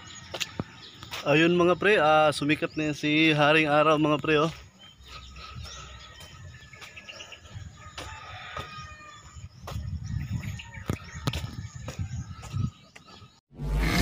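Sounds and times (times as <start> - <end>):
faint birds chirping: 0.0 - 13.4.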